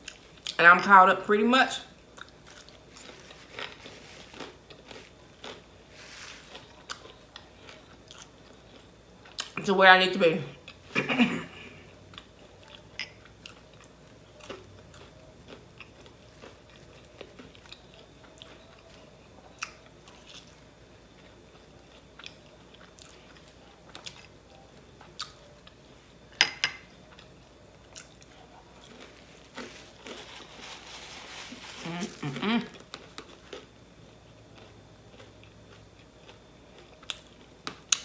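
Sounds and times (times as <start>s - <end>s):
person chewing food: 2.0s - 9.6s, 11.7s - 25.8s, 26.8s - 38.0s.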